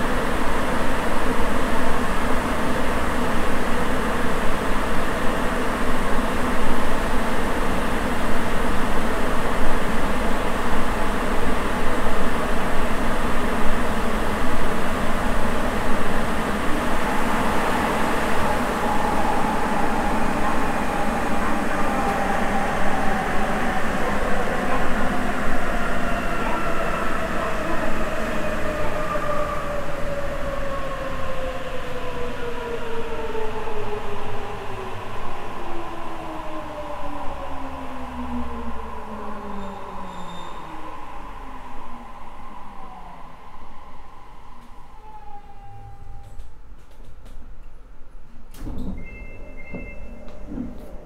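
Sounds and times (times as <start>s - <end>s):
train rumbling in tunnel: 0.0s - 51.0s.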